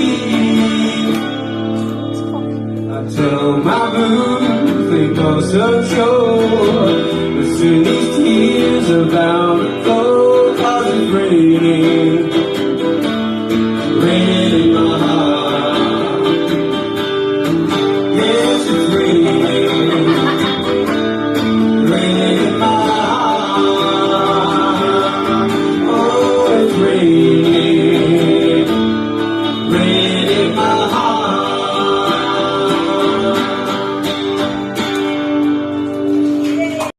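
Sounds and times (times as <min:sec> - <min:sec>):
live guitar instrumental music: 0:00.0 - 0:36.9.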